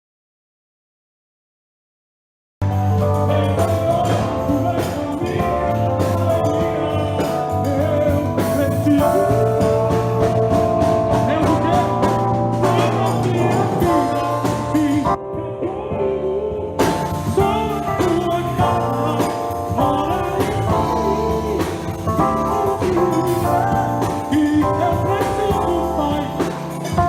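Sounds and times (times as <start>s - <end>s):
gospel song with drums: 2.6s - 27.0s.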